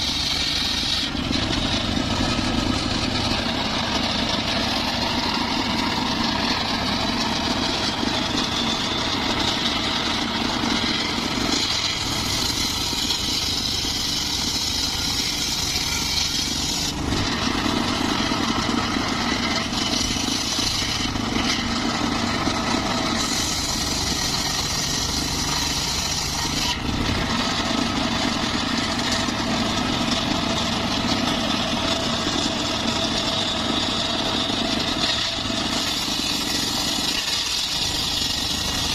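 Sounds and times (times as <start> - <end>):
circular saw engine running: 0.0 - 38.9.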